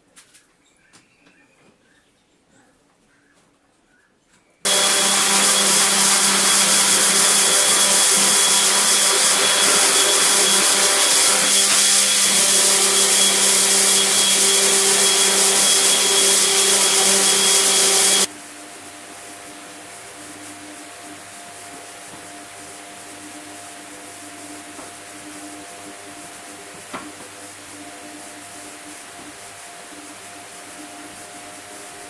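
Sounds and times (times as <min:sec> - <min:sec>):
dust extraction vacuum: 0:04.7 - 0:32.0
orbital sander whirring: 0:04.7 - 0:32.0.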